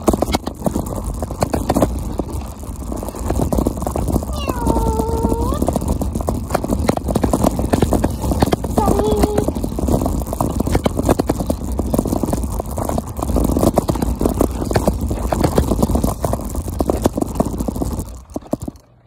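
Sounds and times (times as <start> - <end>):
wind buffeting microphone: 0.0 - 18.8
scooter wheels rattling on asphalt: 0.0 - 19.0.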